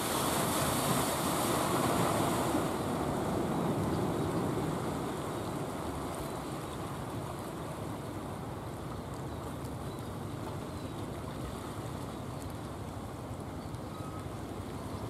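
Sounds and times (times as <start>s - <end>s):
sea waves and surf: 0.0s - 15.0s.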